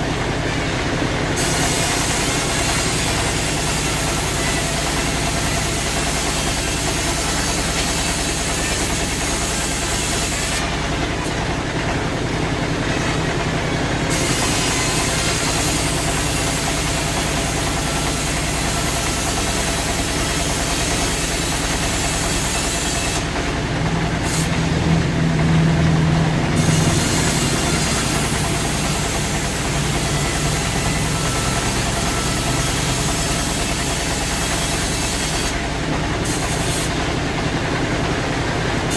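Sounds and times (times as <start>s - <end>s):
sawmill engine humming: 0.0s - 38.9s.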